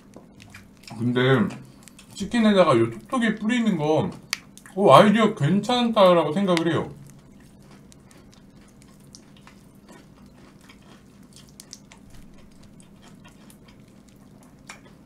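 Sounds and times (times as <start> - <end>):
faint steady hum: 0.0 - 15.0
popping candy crackling: 0.0 - 15.0.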